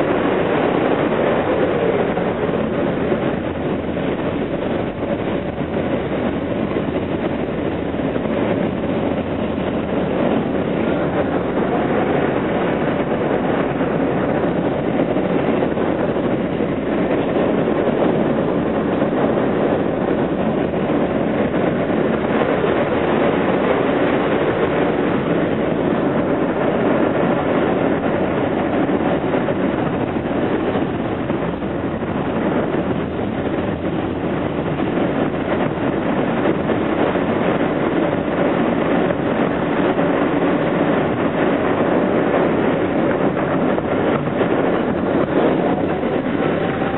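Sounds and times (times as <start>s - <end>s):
wheels rumbling on rail: 0.0s - 46.9s.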